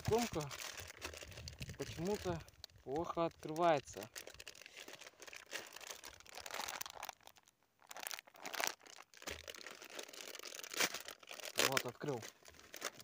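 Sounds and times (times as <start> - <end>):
plastic packet crinkling and tearing: 0.0 - 13.0.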